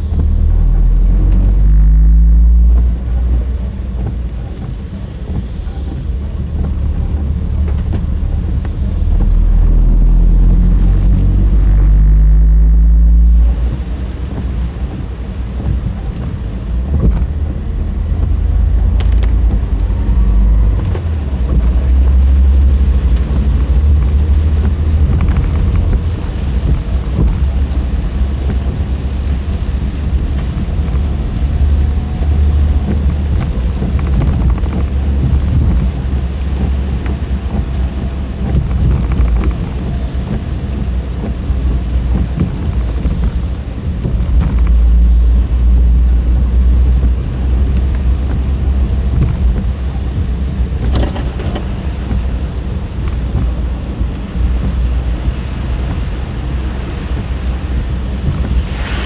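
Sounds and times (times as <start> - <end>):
car road and engine rumble: 0.0 - 59.0
tyres hissing on wet road: 0.0 - 59.0.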